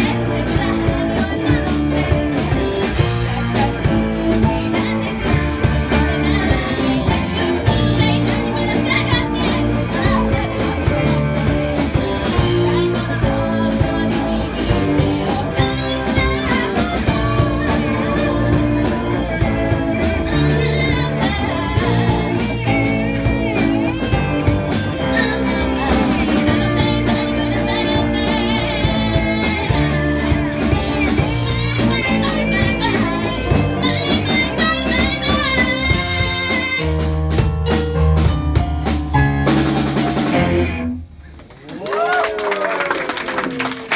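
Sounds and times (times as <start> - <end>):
person singing: 0.0 - 37.0
electric guitar: 0.0 - 41.3
drum kit: 0.0 - 41.5
bass guitar: 0.0 - 41.6.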